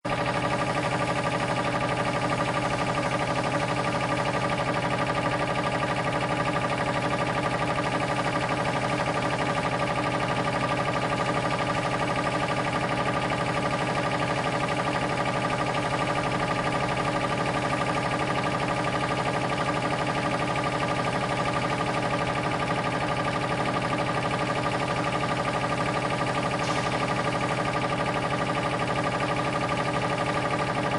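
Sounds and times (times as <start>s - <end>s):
compressor motor humming: 0.1s - 30.9s.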